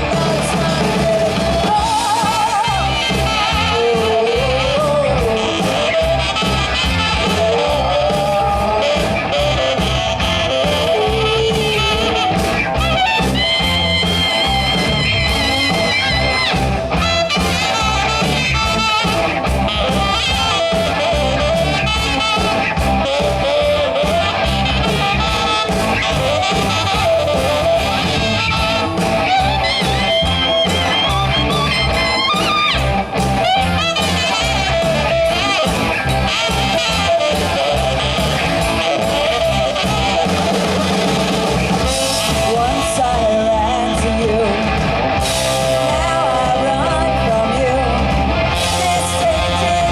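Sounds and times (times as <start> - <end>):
bass and drum beat: 0.0 - 49.9
wavering lead melody: 0.0 - 49.9.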